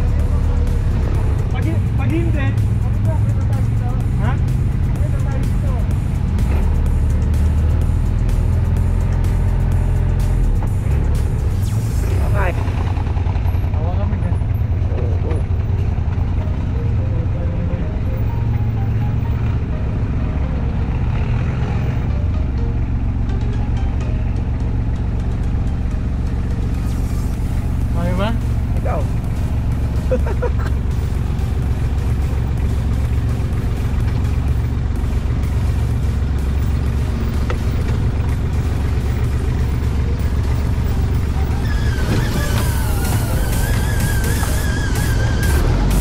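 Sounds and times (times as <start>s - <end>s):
background music: 0.0s - 13.5s, 15.4s - 46.0s
utility vehicle engine droning: 0.0s - 46.0s.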